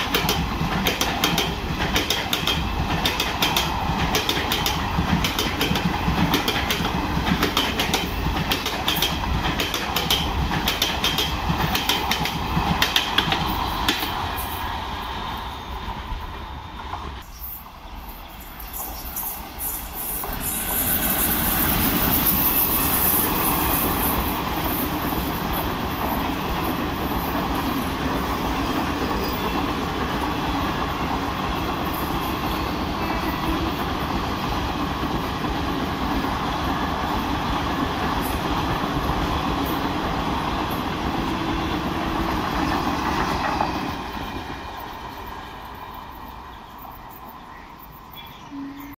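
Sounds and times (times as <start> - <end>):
train passing at speed: 0.0 - 48.9.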